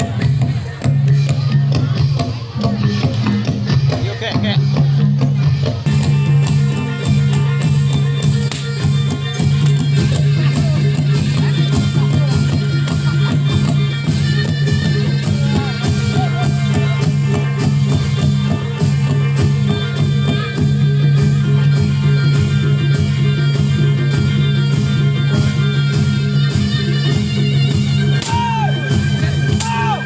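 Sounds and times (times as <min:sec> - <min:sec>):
drum strokes: 0:00.0 - 0:30.0.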